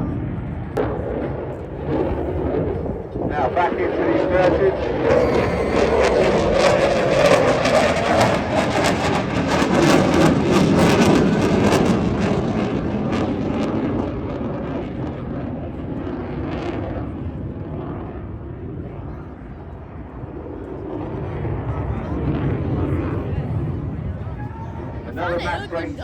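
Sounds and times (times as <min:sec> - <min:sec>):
jet engine roar: 0:00.8 - 0:23.9.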